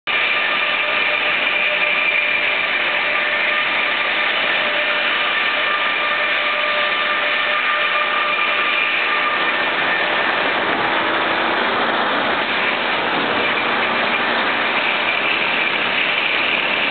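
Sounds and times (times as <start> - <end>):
sawmill saw cutting log: 0.1 - 16.9.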